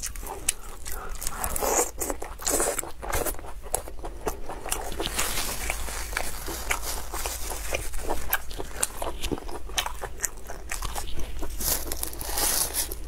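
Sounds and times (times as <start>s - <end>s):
faint low hum: 0.0s - 13.0s
person biting and chewing food: 0.0s - 13.0s.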